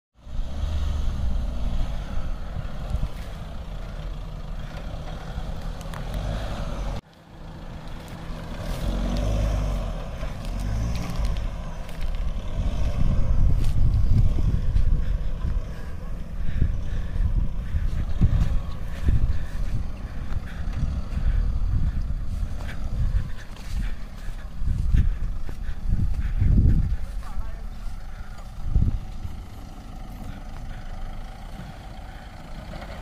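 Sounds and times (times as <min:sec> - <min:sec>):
vehicle engine under load: 0:00.2 - 0:33.0.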